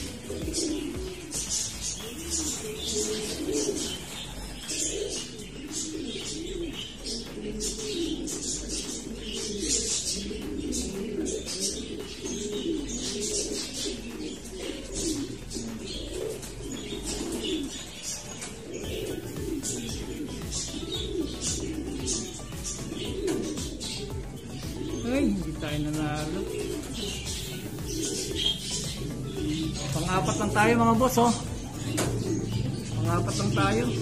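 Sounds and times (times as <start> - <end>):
high chirps and ticks: 0.0 - 34.0
pigeons cooing: 0.0 - 34.0.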